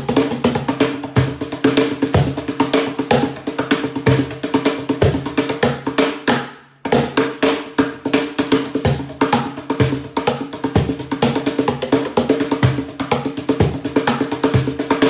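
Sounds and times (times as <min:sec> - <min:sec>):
cajon struck by hand: 0:00.0 - 0:15.0.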